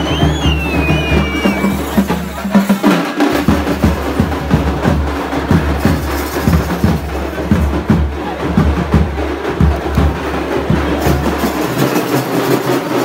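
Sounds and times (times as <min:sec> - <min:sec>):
drum-led music with fast beat: 0:00.0 - 0:13.0.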